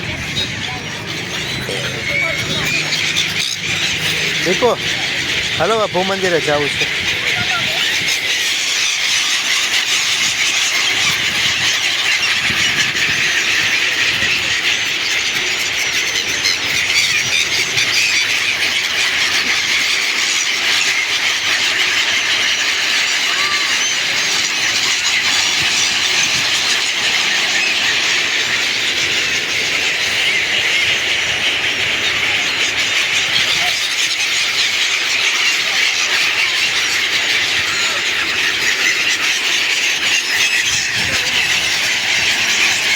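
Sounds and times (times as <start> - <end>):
flock of small birds chirping: 0.0 - 42.9.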